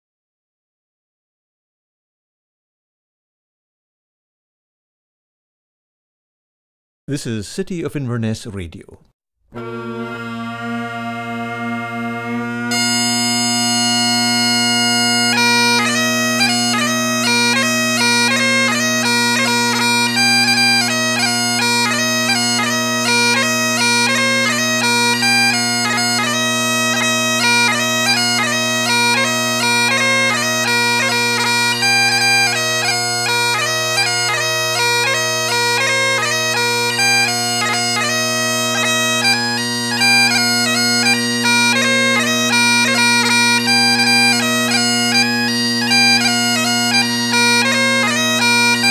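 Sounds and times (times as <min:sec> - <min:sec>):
bagpipes playing a quick tune: 0:09.6 - 0:48.9.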